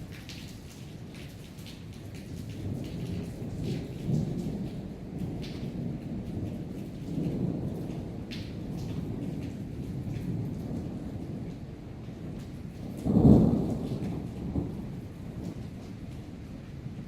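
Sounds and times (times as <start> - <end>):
raindrops ticking: 0.0 - 16.6
steady rain: 0.0 - 17.0
rolling thunder: 2.6 - 17.0.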